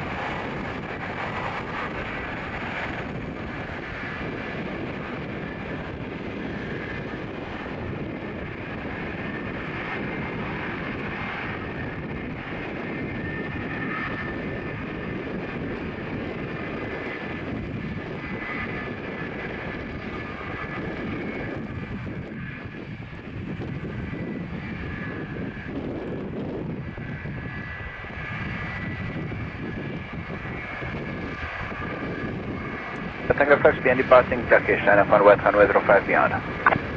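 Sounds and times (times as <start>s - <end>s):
jet engines whining and rumbling: 0.0s - 36.9s.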